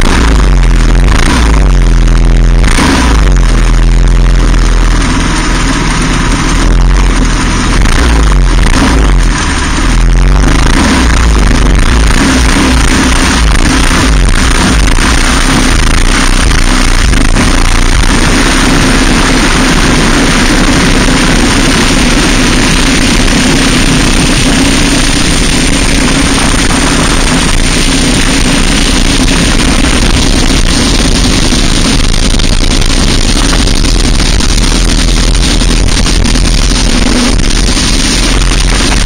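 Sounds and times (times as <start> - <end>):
kart engine running hard: 0.0 - 39.0.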